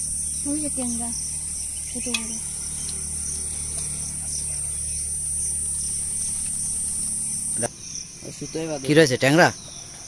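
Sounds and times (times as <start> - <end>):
insects shrilling: 0.0 - 10.0
low hum: 0.0 - 10.0
pulsing insect chirp: 0.0 - 10.0.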